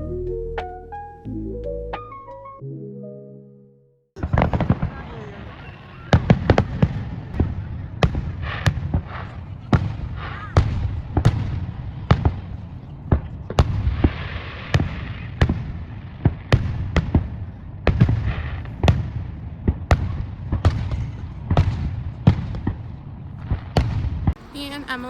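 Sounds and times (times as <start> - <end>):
fireworks bangs: 4.2 - 25.0.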